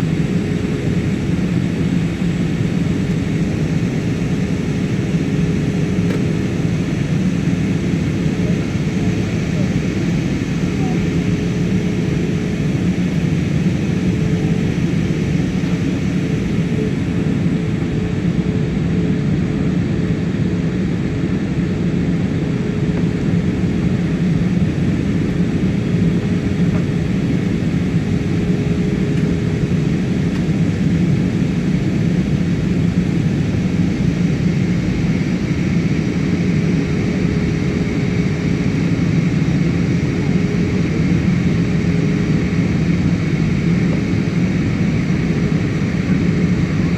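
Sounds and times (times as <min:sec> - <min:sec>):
jet engines and airflow rush: 0:00.0 - 0:46.9.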